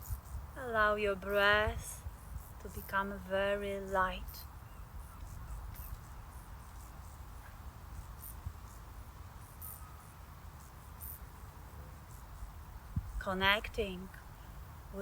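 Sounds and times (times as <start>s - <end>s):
crickets chirping: 0.0s - 15.0s
steady low rumble: 0.0s - 15.0s.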